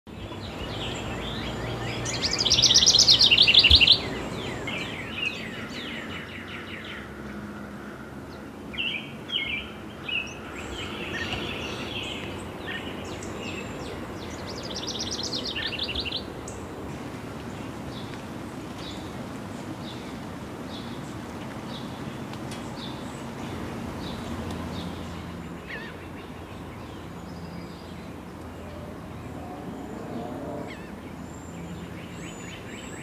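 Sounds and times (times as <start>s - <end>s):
songbirds singing and trilling: 0.1s - 33.0s.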